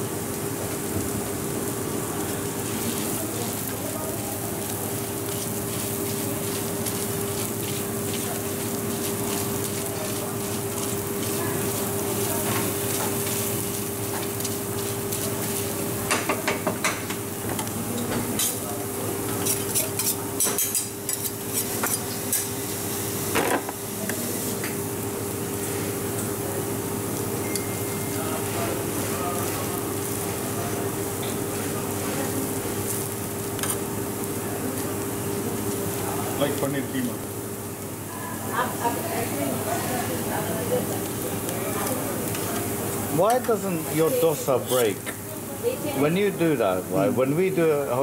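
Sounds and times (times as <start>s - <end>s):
dosa sizzling on griddle: 0.0s - 47.6s.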